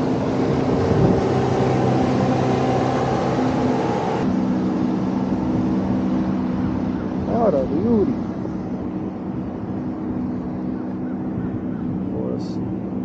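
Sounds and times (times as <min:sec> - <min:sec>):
motorboat engine humming: 0:00.0 - 0:13.0.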